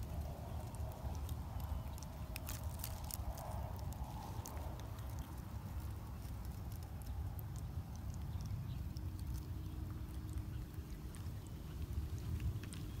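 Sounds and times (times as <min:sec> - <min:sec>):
faint steady hum: 0:00.0 - 0:13.0
faint ticks and crackles: 0:00.0 - 0:13.0
wind rumble on microphone: 0:00.0 - 0:13.0.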